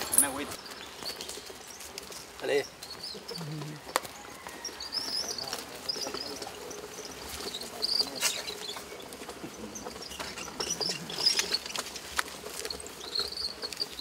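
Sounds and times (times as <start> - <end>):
wooden cart knocking and clattering: 0.0 - 14.0.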